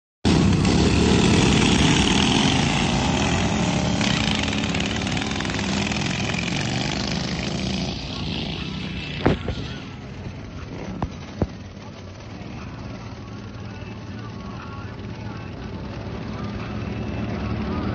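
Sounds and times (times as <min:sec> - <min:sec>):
racing lawn mower engines: 0:00.3 - 0:17.9.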